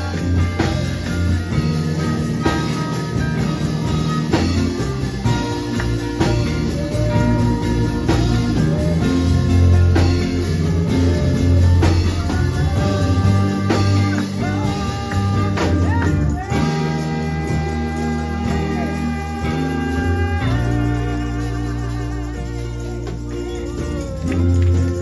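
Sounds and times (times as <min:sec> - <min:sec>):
bending guitar lead line: 0:00.0 - 0:25.0
gospel band playing: 0:00.0 - 0:25.0
heavy bass line: 0:00.0 - 0:25.0.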